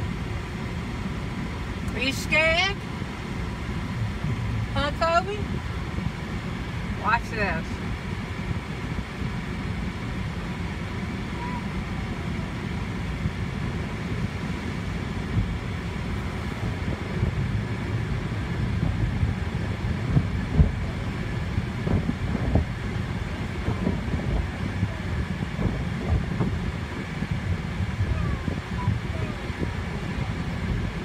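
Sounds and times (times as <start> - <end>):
car wash machinery rumbling: 0.0 - 31.0.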